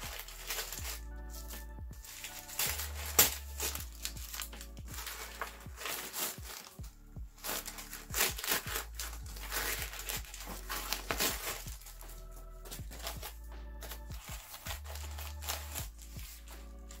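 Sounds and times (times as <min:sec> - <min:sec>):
paper crinkling and rustling: 0:00.0 - 0:17.0
soft background music: 0:00.0 - 0:17.0.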